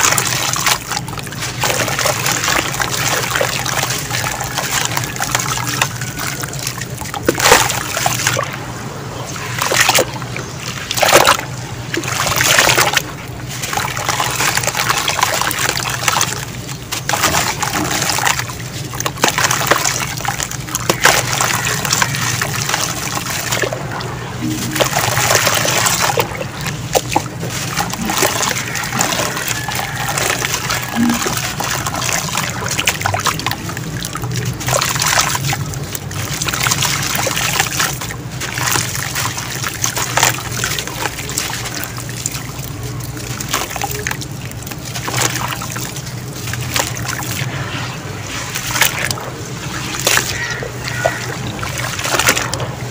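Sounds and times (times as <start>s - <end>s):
water splashing and trickling: 0.0s - 52.9s.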